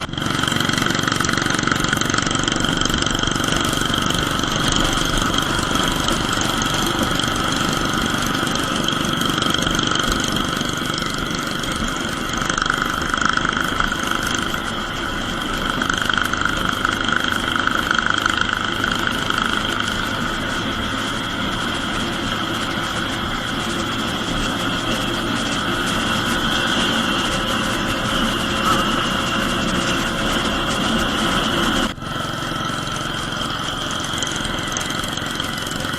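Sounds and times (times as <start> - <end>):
motorcycle engine cruising: 0.0 - 35.9
wind and road noise: 0.0 - 35.9.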